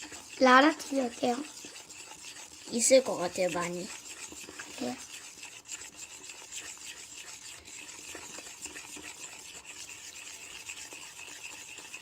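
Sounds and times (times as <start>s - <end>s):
slime rubbing and scraping: 0.0s - 12.0s.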